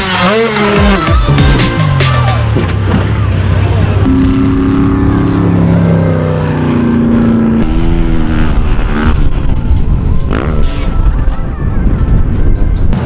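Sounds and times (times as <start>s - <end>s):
vehicle engine at high revs: 0.0s - 10.9s.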